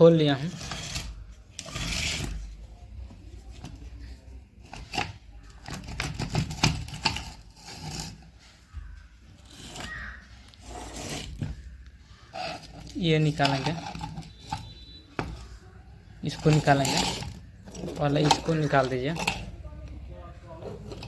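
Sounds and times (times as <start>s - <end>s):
scraping of drill parts: 0.0s - 15.6s, 16.2s - 21.0s.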